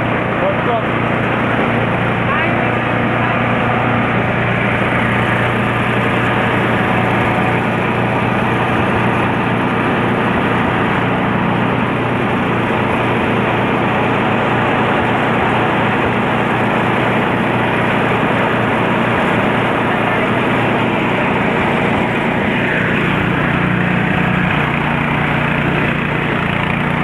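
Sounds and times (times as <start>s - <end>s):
chopper machine running: 0.0s - 27.0s.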